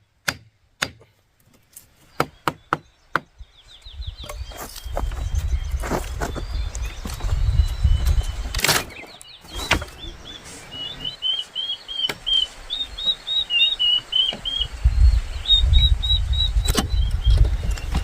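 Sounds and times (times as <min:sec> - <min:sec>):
bird chirping: 0:01.6 - 0:18.0.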